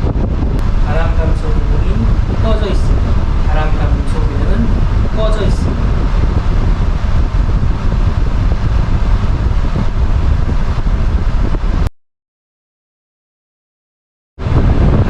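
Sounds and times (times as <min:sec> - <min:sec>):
fan wind blowing on microphone: 0:00.0 - 0:11.9, 0:14.4 - 0:15.0.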